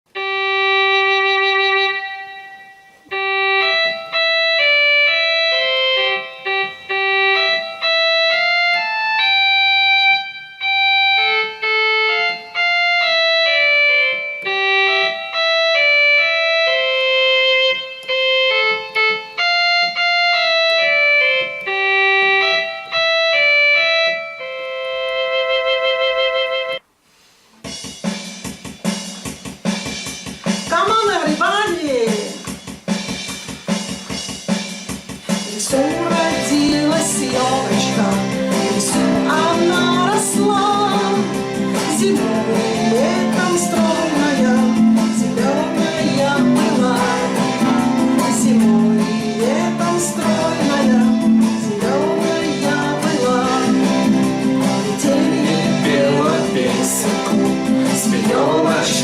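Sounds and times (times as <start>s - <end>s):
electronic keyboard melody: 0.1s - 27.0s, 27.8s - 59.0s.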